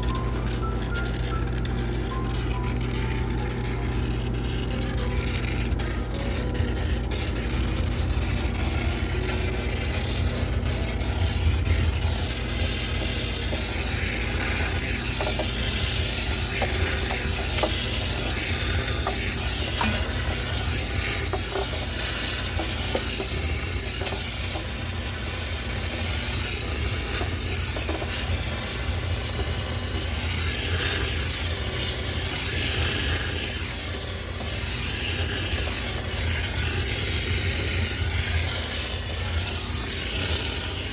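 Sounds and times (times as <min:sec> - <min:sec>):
low machine hum: 0:00.0 - 0:40.9
steam hissing: 0:06.0 - 0:40.9.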